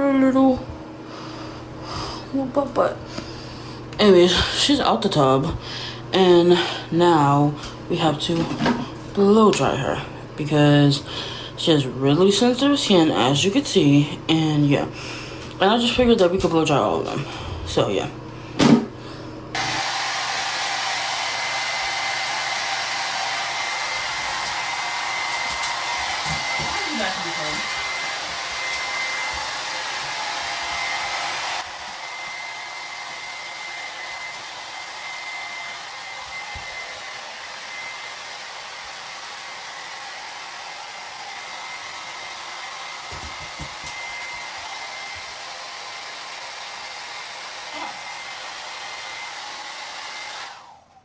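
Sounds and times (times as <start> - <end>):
hair dryer blowing with whine: 0.0 - 51.0.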